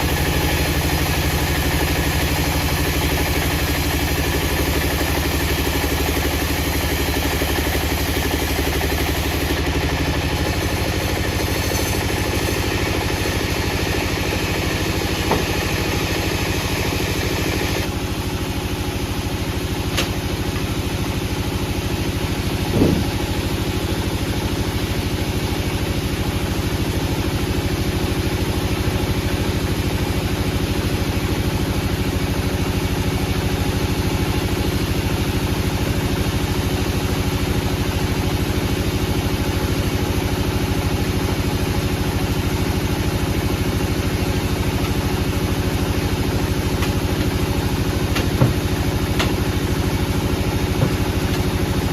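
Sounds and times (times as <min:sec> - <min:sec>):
machinery engine running: 0:00.0 - 0:51.9.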